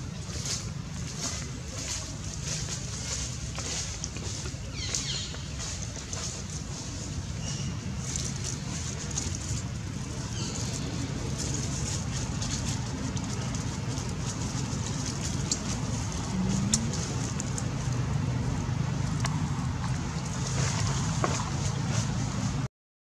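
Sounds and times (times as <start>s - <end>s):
dry leaves crackling: 0.0s - 22.7s
low background rumble: 0.0s - 22.7s.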